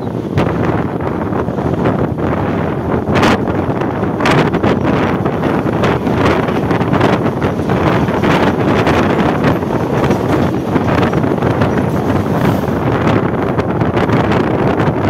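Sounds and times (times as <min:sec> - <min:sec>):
passing train: 0:00.0 - 0:15.0
train running on track: 0:00.0 - 0:15.0
wind rushing on microphone: 0:00.0 - 0:15.0.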